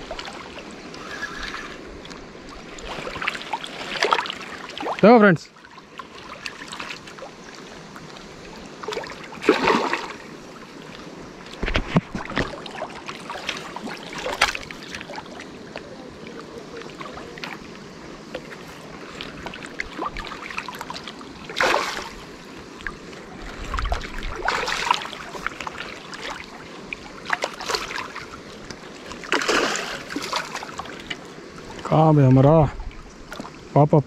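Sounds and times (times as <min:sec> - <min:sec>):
fish splashing: 0:00.0 - 0:05.0, 0:05.8 - 0:31.9
lapping water: 0:00.0 - 0:33.6
wind: 0:00.0 - 0:34.0.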